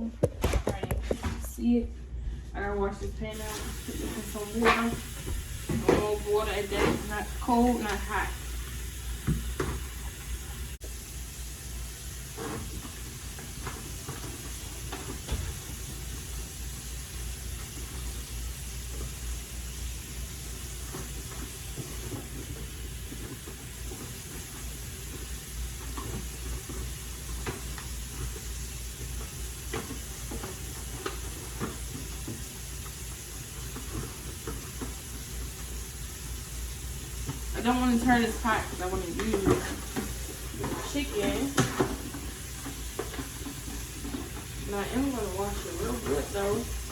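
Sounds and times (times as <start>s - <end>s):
tap running water into pan: 3.4s - 46.9s.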